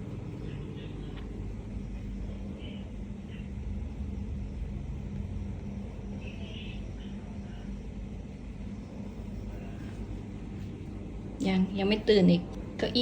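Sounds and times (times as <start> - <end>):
low rumble with hum: 0.0 - 13.0.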